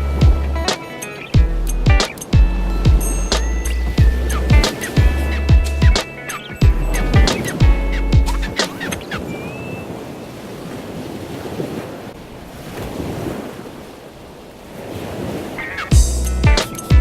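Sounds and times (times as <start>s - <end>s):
ocean surf washing onto beach: 0.0s - 17.0s
wind rumbling on microphone: 1.4s - 17.0s.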